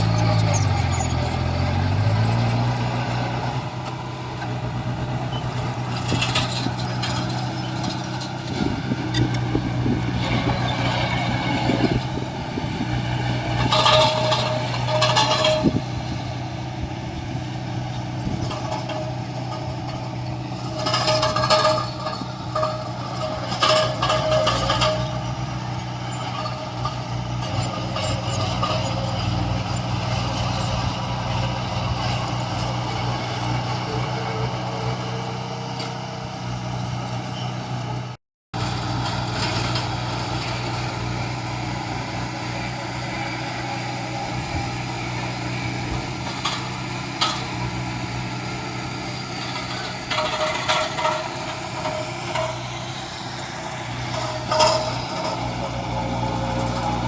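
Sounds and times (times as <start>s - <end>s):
diesel construction machinery running: 0.0s - 57.0s.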